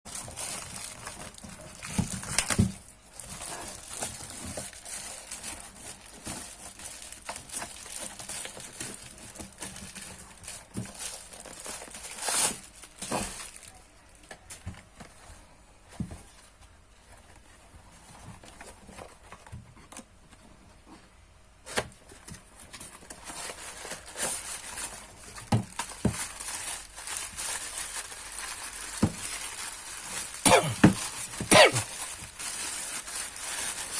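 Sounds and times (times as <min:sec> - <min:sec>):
plastic packaging crinkling and tearing: 0:00.1 - 0:15.2, 0:21.7 - 0:33.9.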